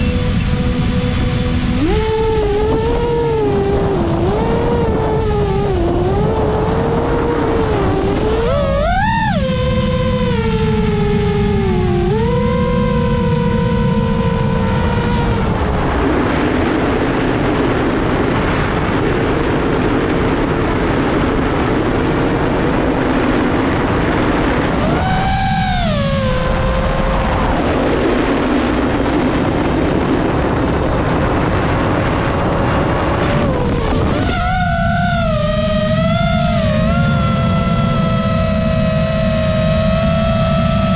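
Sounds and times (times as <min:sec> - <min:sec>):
drone motors whining: 0:00.0 - 0:40.9
wind rushing on microphone: 0:00.0 - 0:40.9.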